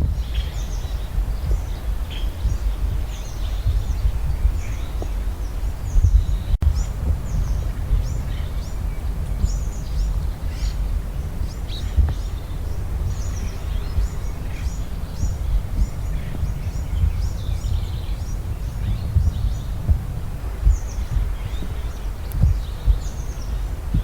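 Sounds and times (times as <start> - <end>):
small birds chirping: 0.0 - 24.0
wind rumble on microphone: 0.0 - 24.0.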